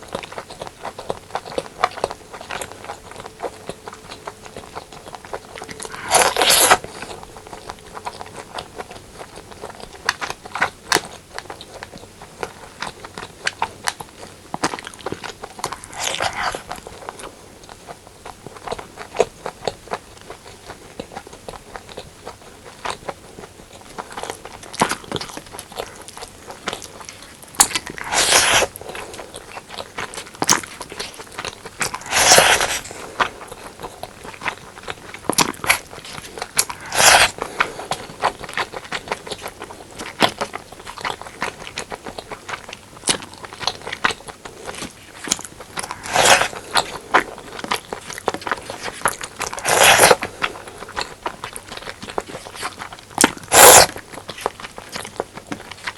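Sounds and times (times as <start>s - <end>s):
close chewing with wet mouth clicks: 0.0s - 55.9s.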